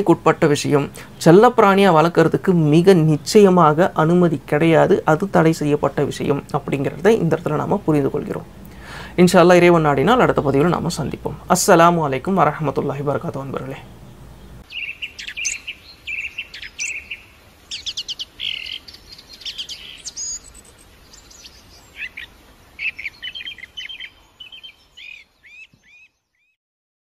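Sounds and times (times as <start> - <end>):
song thrush singing: 0.0 - 26.6.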